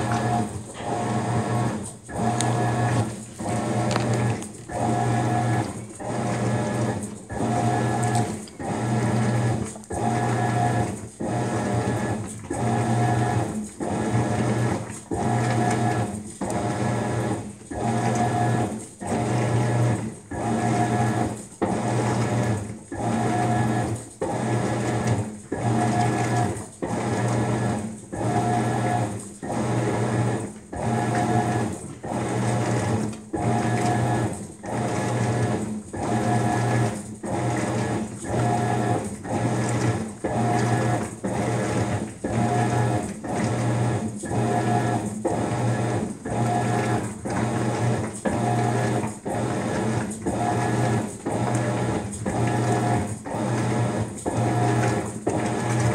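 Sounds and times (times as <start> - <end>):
washing machine agitating: 0.0 - 55.9.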